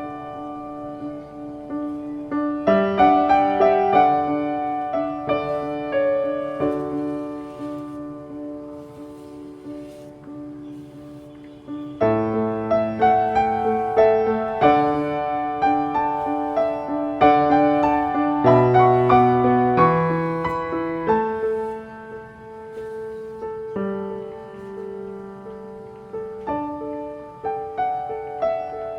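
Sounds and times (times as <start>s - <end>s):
gentle piano music: 0.0s - 28.9s.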